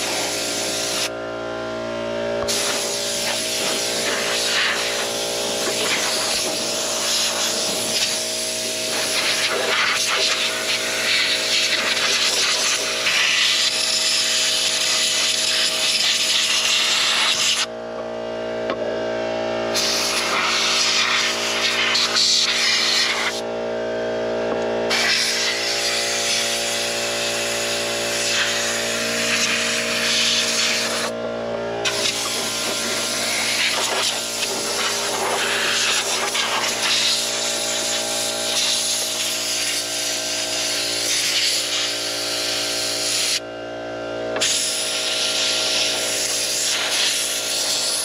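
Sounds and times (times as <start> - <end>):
air blow gun hissing: 0.0 - 1.2, 2.4 - 17.7, 19.7 - 23.4, 24.9 - 31.2, 31.8 - 43.4, 44.4 - 48.0
steady hum: 0.0 - 48.0.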